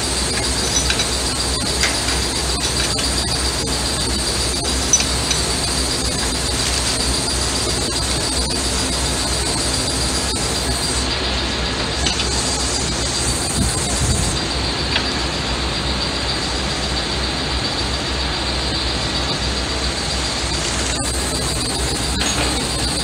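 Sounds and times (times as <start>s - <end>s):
high whine: 0.0s - 23.0s
loud whirring drone: 0.0s - 23.0s.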